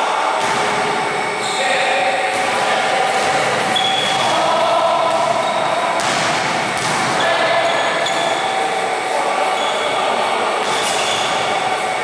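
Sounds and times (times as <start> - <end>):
echoing hall noise: 0.0 - 12.0
sneaker squeaks: 0.4 - 12.0.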